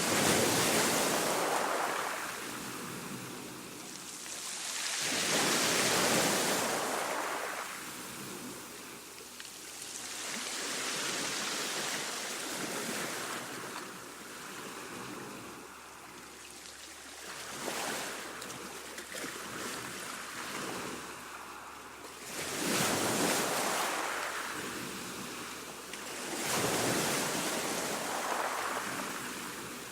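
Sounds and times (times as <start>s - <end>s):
gentle waves washing: 0.0s - 29.9s.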